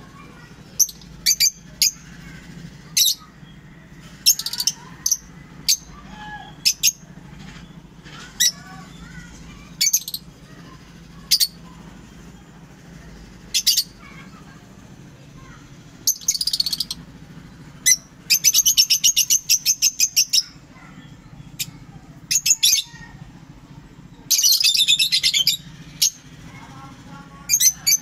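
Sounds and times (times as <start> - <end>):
birds chirping shrilly: 0.0 - 28.0.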